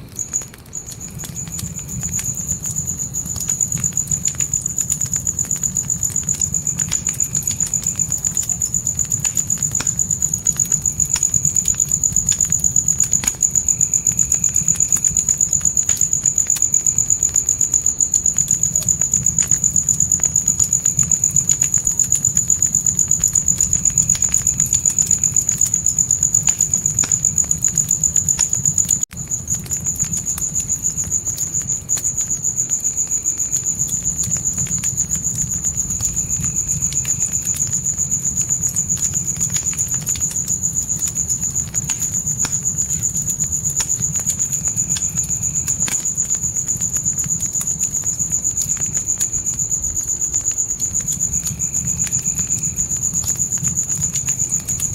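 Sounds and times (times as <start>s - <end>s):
crickets chirping: 0.0s - 54.9s
wood fire crackling: 0.0s - 54.9s.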